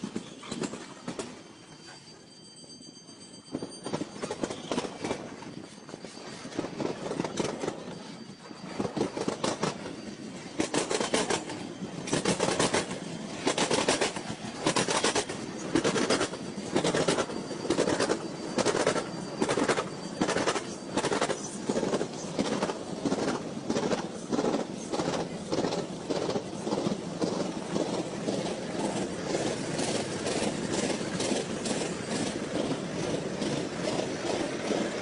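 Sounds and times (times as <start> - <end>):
train rumble: 0.0 - 35.0
train wheels clacking over crossing: 0.0 - 35.0.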